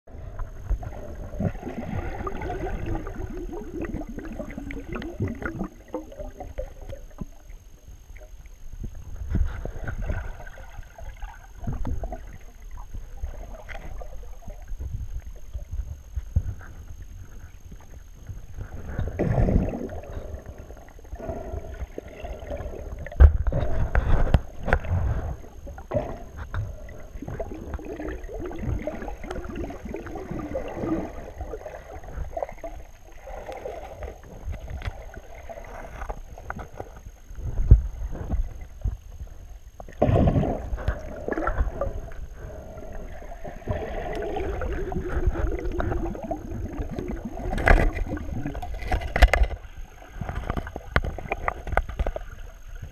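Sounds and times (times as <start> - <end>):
muffled underwater sloshing: 0.1 - 52.9.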